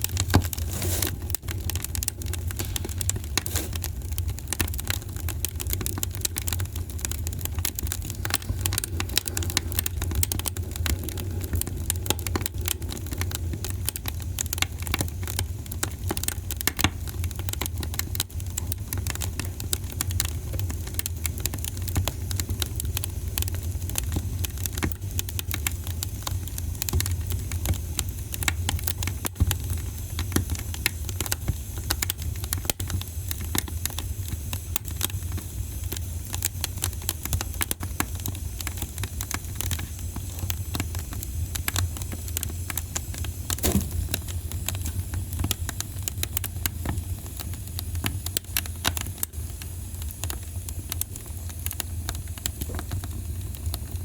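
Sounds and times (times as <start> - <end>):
low rumble of fire: 0.0 - 54.0
wood fire crackling: 0.0 - 54.0.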